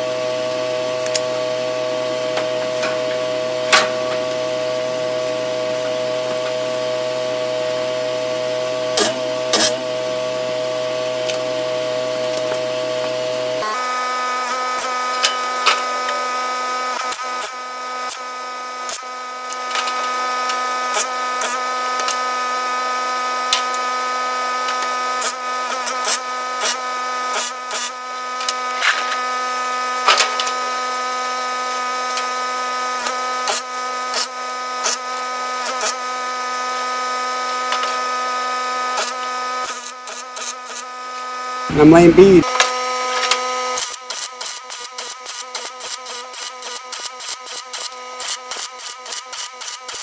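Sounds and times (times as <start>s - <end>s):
welding arc buzzing and crackling: 8.9s - 10.4s, 11.2s - 50.0s.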